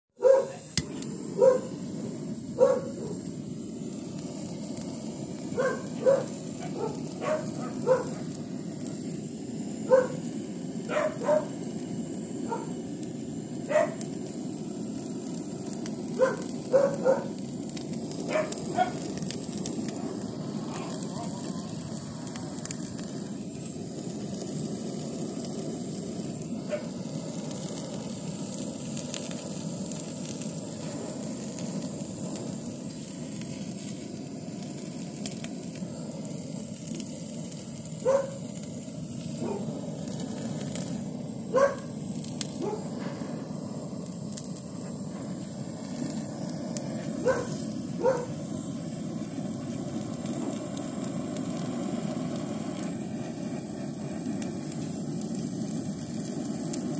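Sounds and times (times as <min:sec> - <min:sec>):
blow torch flame hissing: 0:00.1 - 0:56.9.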